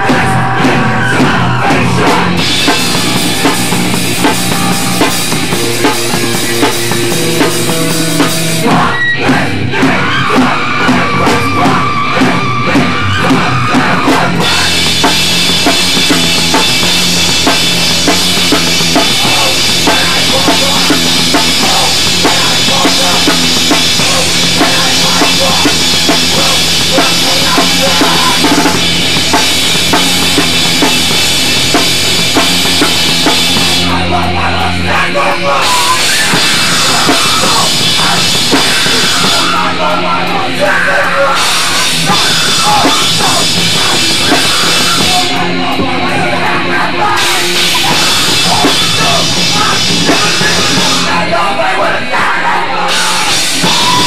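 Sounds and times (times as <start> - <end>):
hardcore punk band playing: 0.0 - 54.0.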